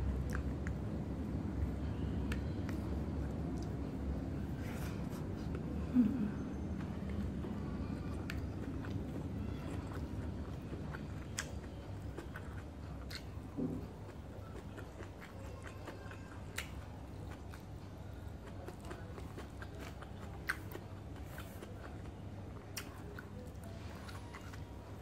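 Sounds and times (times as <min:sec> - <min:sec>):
person chewing food: 0:00.0 - 0:25.0
steady low hum: 0:00.0 - 0:25.0.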